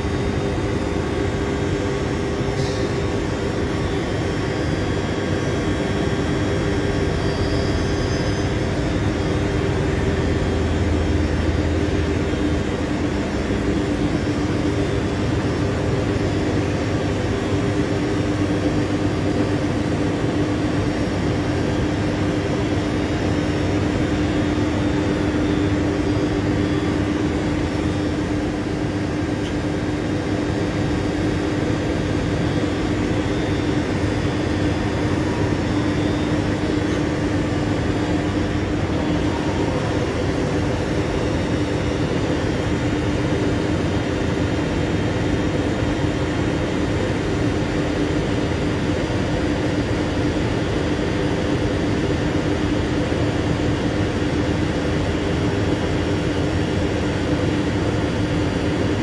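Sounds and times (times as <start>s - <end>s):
electric train ventilation hum: 0.0s - 59.0s.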